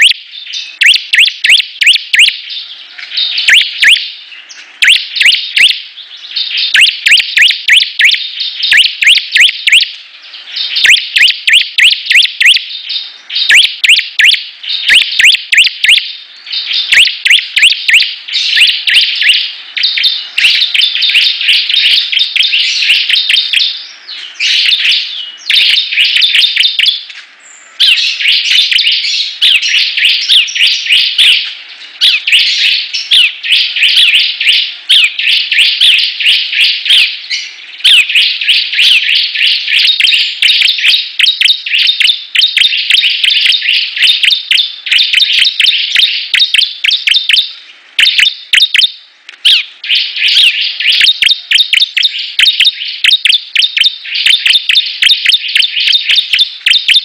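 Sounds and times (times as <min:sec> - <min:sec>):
bird singing high chirps: 0:00.0 - 0:57.0.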